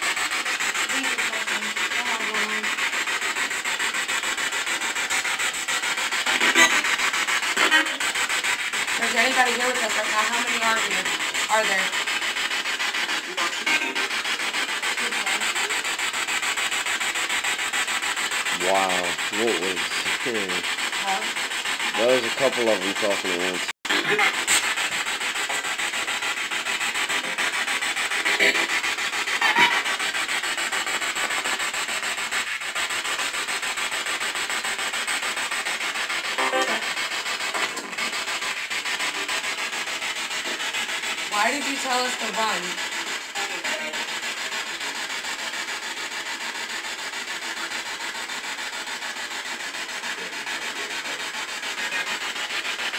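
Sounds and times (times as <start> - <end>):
loud rasping hiss: 0.0 - 52.9.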